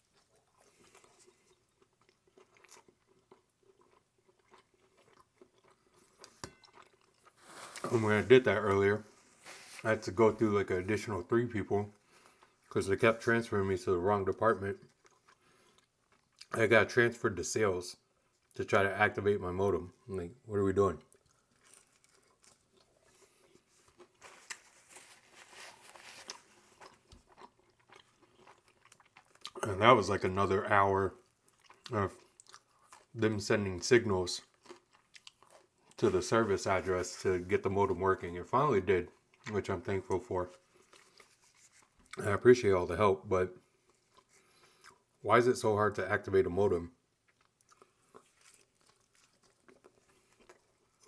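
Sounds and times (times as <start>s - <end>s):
faint chewing with crunches: 0.0s - 16.7s, 18.0s - 18.7s, 20.6s - 42.5s, 43.6s - 45.2s, 47.1s - 51.0s.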